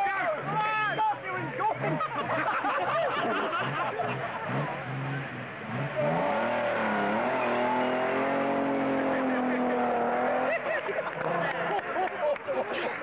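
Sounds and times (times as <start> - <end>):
engine revving hard: 0.3 - 11.8.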